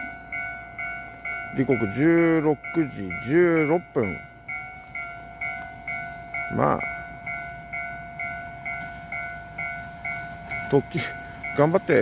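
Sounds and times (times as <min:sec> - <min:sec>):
level crossing alarm ringing: 0:00.0 - 0:12.0.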